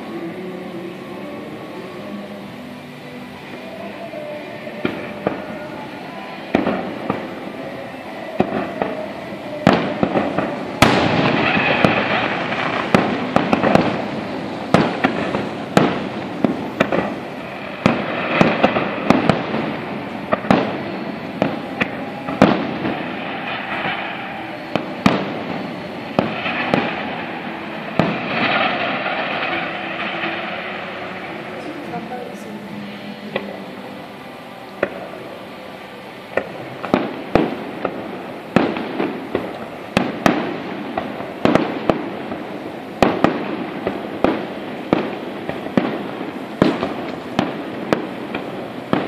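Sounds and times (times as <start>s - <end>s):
fireworks banging and crackling: 0.0s - 49.0s.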